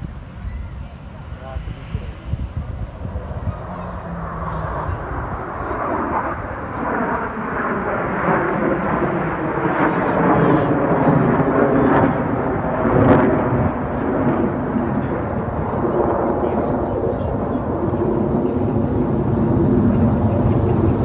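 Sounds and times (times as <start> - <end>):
jet aircraft roaring past: 0.0 - 21.0.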